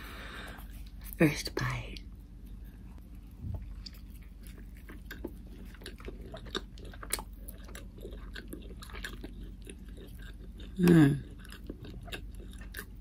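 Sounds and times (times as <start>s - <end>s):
chewing: 2.4s - 13.0s.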